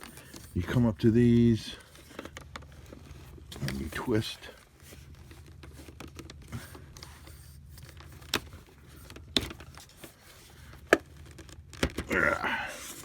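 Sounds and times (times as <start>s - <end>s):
plastic parts rattling: 0.0s - 13.0s.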